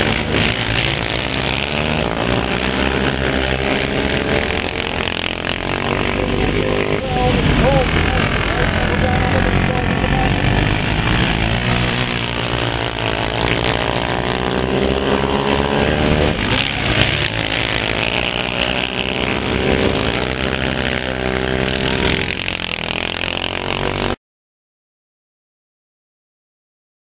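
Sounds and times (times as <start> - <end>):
quad bike engines revving: 0.0 - 24.2.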